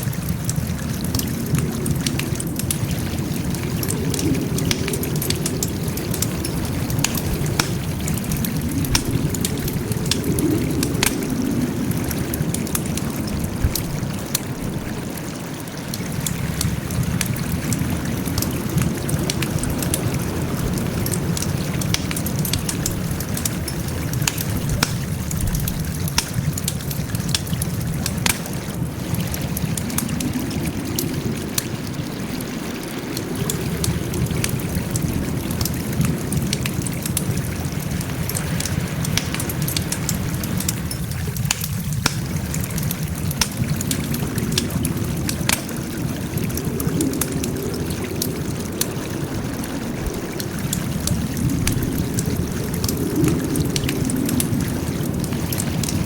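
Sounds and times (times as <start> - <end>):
low rushing of burning fire: 0.0 - 56.0
wood fire crackling and popping: 0.0 - 56.0.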